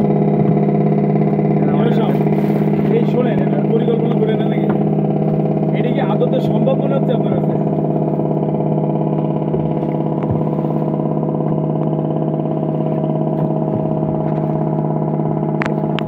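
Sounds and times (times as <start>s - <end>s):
speed boat engine running: 0.0s - 16.0s.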